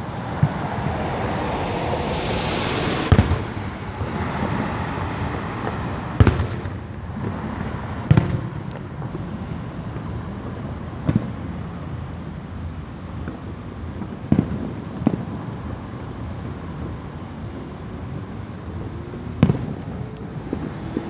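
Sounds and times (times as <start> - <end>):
fireworks booming: 0.0 - 11.8, 13.1 - 21.0
fireworks crackling hiss: 0.0 - 21.0
steady background noise: 0.0 - 21.0.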